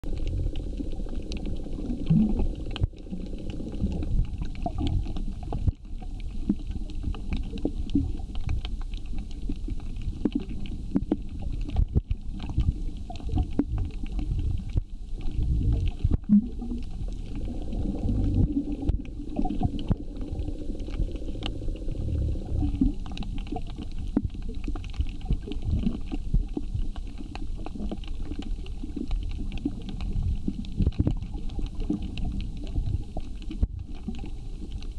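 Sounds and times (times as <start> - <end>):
underwater rumble: 0.0 - 34.9
sharp underwater clicks: 0.1 - 34.9.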